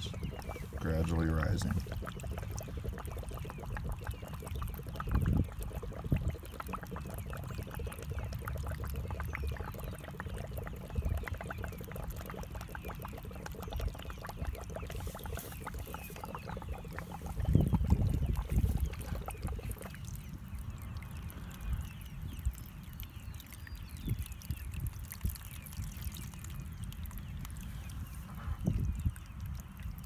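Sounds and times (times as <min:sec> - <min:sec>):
water trickling and bubbling: 0:00.0 - 0:30.0.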